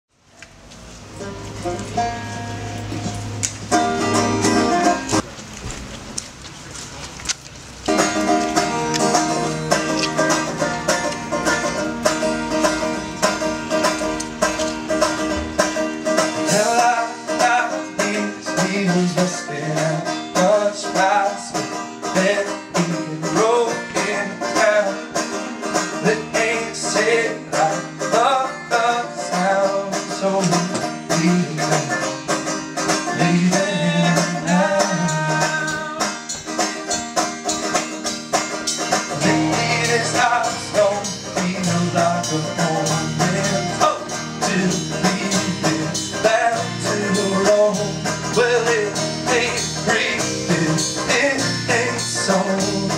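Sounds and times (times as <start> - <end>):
picked banjo: 0.4 - 52.9
strummed guitar: 0.7 - 6.4, 7.8 - 52.9.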